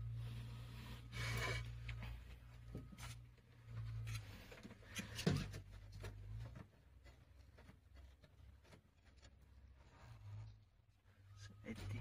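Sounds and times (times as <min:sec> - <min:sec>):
hands rustling wiring and cloth: 0:00.0 - 0:12.0.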